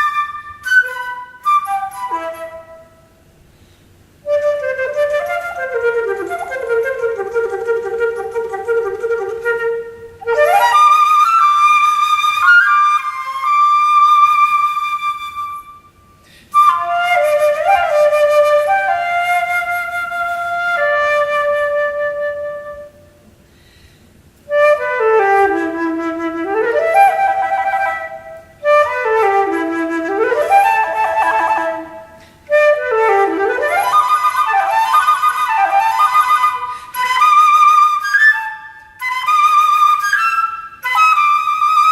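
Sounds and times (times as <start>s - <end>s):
solo flute playing: 0.0s - 23.3s, 24.4s - 41.9s.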